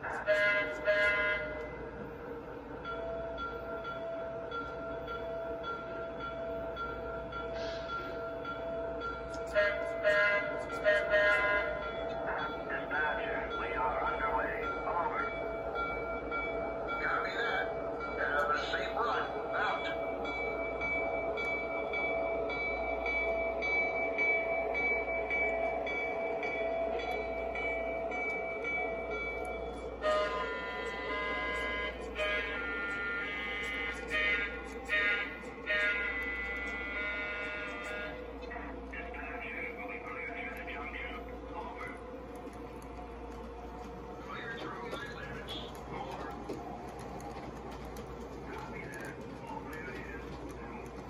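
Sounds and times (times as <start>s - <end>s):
locomotive bell ringing: 0.0s - 51.0s
model train rolling on track: 0.0s - 51.0s.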